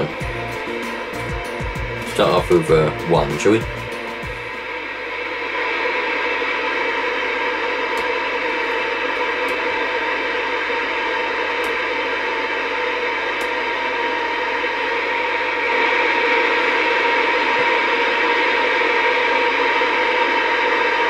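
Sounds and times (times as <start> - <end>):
radio static hissing: 0.0 - 21.0.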